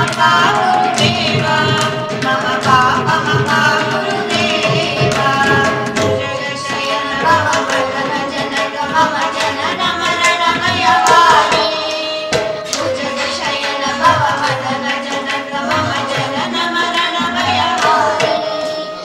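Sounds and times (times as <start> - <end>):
hand drum: 0.0 - 18.9
woman and boy singing: 0.0 - 19.0.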